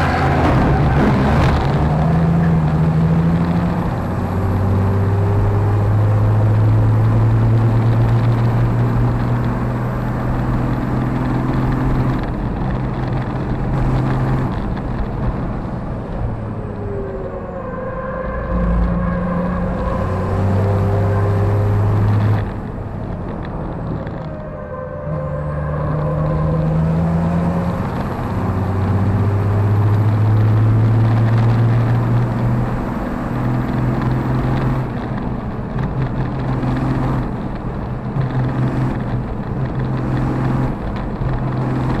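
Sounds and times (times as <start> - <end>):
diesel engine accelerating: 0.0 - 42.0.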